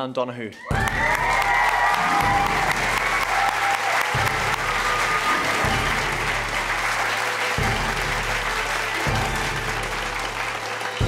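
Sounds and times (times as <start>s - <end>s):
background music: 0.0s - 11.0s
audience applauding: 0.7s - 11.0s.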